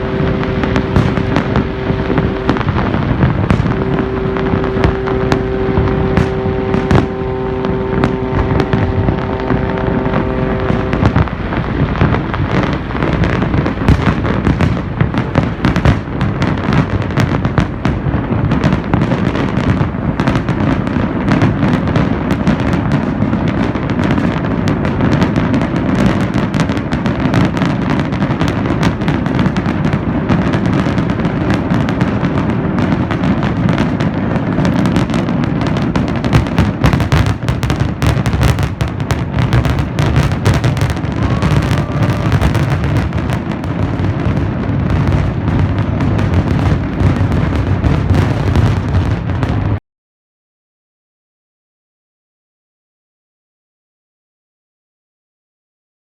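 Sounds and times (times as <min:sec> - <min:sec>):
long steady tone: 0:00.0 - 0:45.0
fireworks bangs and crackles: 0:00.0 - 0:49.8.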